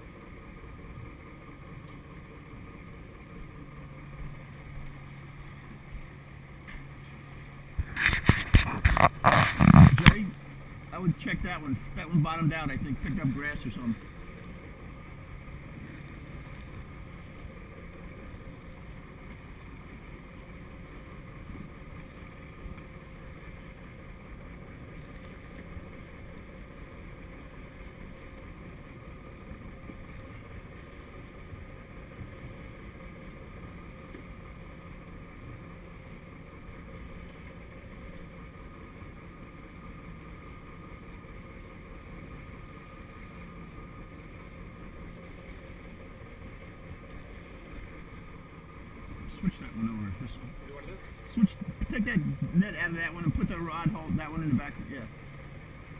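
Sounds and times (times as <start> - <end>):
boat engine humming: 0.0 - 55.9
water splashing against boat: 0.0 - 55.9
wind: 0.0 - 55.9.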